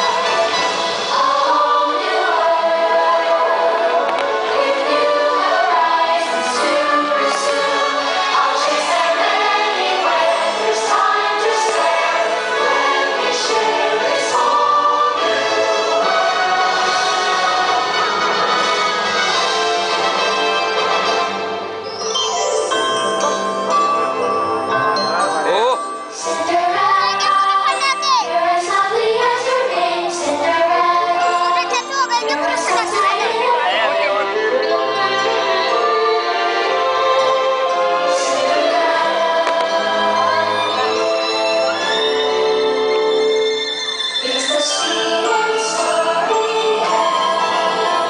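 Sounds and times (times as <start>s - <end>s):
choir singing: 0.0s - 21.4s, 26.1s - 48.0s
orchestra: 0.0s - 48.0s.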